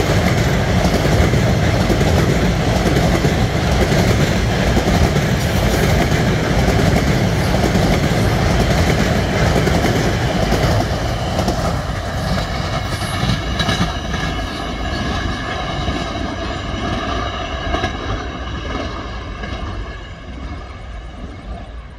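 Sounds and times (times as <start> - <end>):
train wheels clattering: 0.0 - 20.6.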